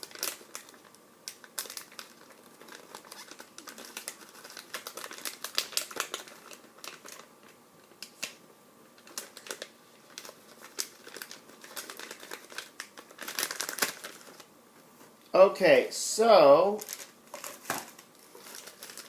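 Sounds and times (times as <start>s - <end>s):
plastic packaging crinkling: 0.0s - 8.4s, 9.0s - 14.5s, 16.8s - 19.0s.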